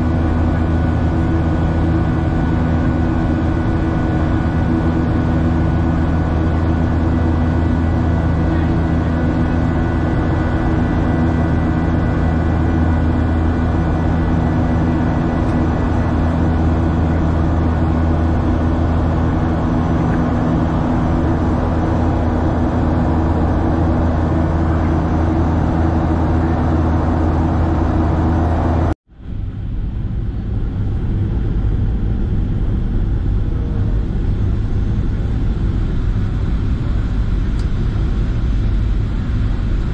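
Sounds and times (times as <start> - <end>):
jet engine cabin noise: 0.0 - 39.9
low rumble in aircraft cabin: 0.0 - 39.9.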